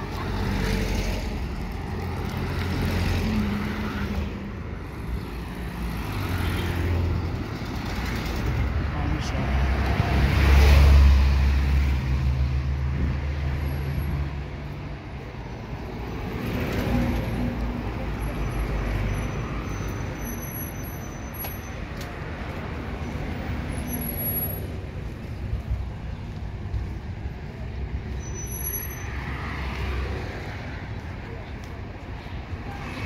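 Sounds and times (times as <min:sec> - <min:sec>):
passing traffic: 0:00.0 - 0:33.0.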